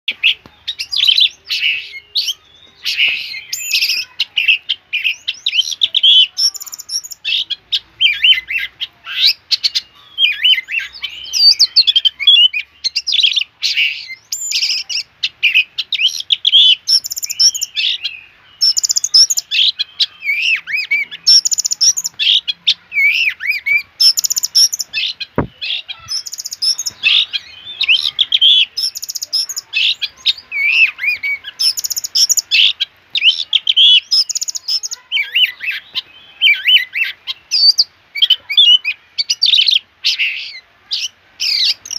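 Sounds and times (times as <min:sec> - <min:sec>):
magpie-robin singing: 0:00.1 - 0:41.9.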